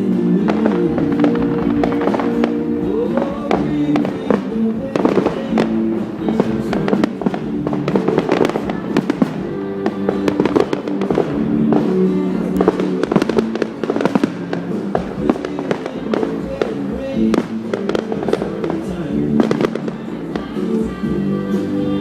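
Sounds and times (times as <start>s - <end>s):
fireworks bangs and crackles: 0.0s - 22.0s
music with sustained notes: 0.0s - 22.0s.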